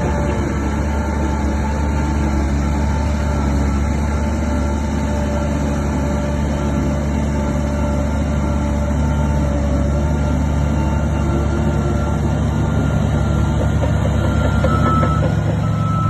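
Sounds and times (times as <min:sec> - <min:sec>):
heavy machinery engine rumbling: 0:00.0 - 0:16.0.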